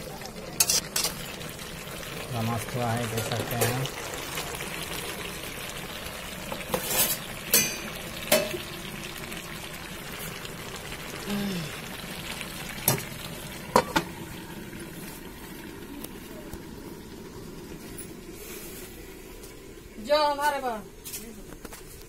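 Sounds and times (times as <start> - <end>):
chicken sizzling in a pan: 0.0 - 21.4.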